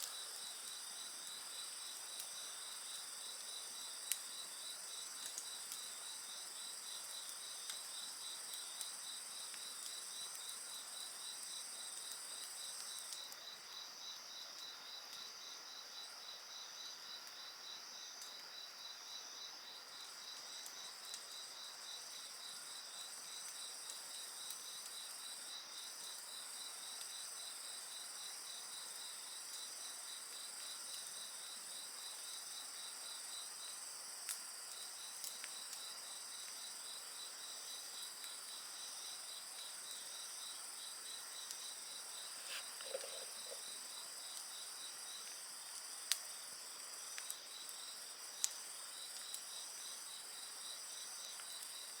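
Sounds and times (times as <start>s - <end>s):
campfire crackles: 0.0s - 16.2s, 16.9s - 52.0s
night insects chirring: 0.0s - 52.0s.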